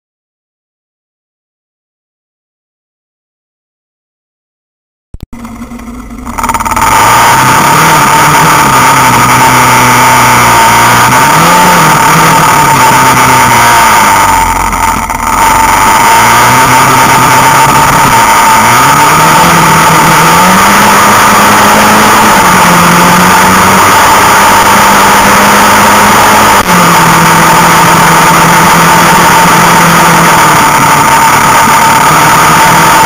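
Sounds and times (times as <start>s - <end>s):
atv engines revving: 5.4s - 33.0s.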